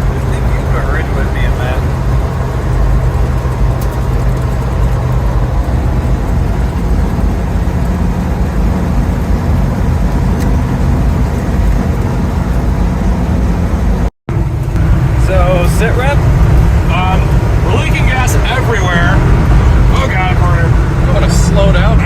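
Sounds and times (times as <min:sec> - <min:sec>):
truck engine road and wind drone: 0:00.0 - 0:22.0.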